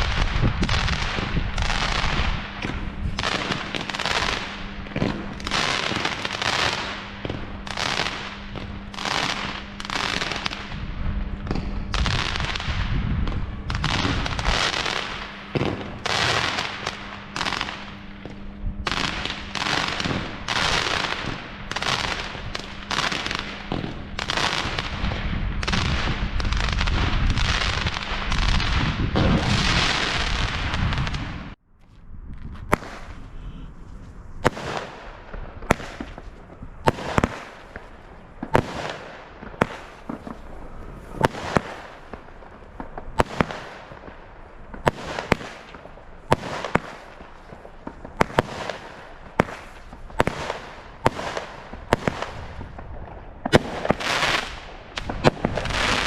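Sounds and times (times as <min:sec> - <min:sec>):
fireworks banging and crackling: 0:00.0 - 0:31.6, 0:32.3 - 0:56.0.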